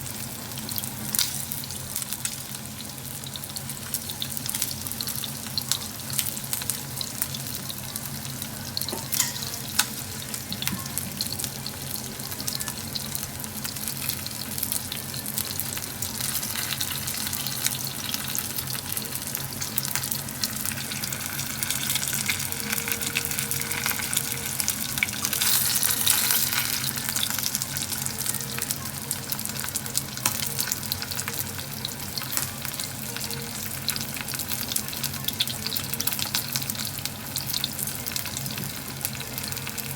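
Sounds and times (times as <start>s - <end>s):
chicken deep-frying in oil: 0.0s - 39.9s.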